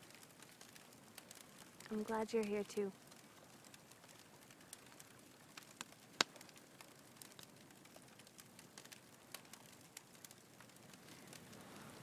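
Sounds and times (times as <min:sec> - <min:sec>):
campfire crackling: 0:00.0 - 0:12.0.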